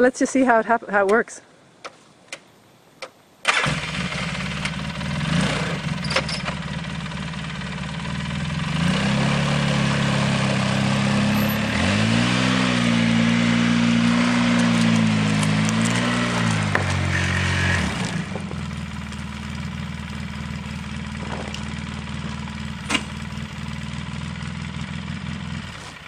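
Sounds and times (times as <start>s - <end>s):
atv engine running: 3.6s - 26.0s.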